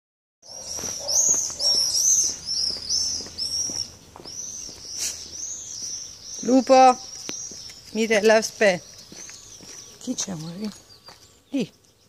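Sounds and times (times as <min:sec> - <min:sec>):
small bird chirping: 0:00.5 - 0:12.0.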